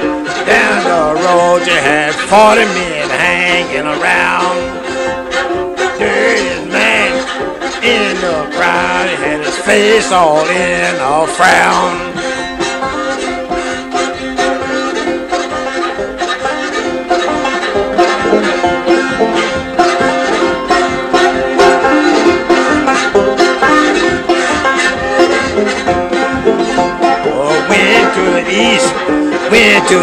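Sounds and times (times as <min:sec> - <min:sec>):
banjo music: 0:00.0 - 0:30.0.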